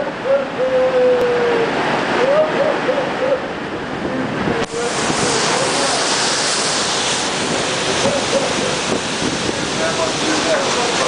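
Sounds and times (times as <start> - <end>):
hiss of spray and wind: 0.0 - 11.0
seawater rushing across deck: 0.0 - 11.0.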